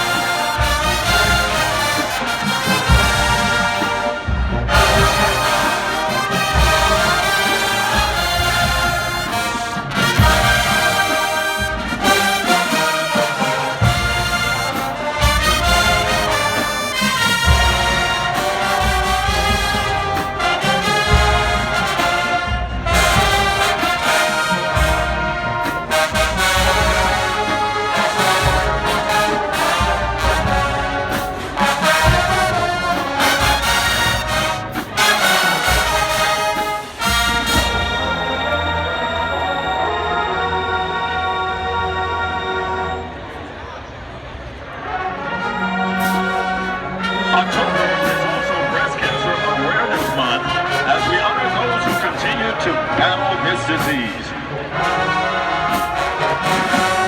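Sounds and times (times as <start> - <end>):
brass section playing melody: 0.0 - 57.0.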